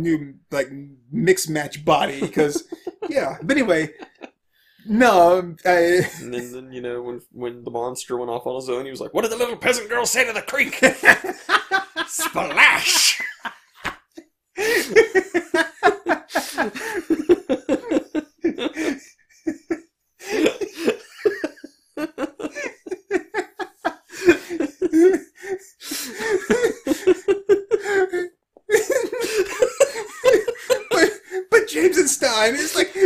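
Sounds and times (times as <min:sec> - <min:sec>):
men laughing: 0:01.8 - 0:04.4, 0:05.1 - 0:06.5, 0:10.0 - 0:33.0.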